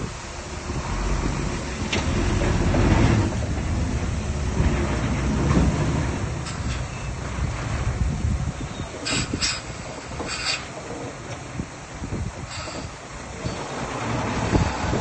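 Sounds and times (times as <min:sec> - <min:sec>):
heavy machinery diesel rumble: 0:00.0 - 0:15.0.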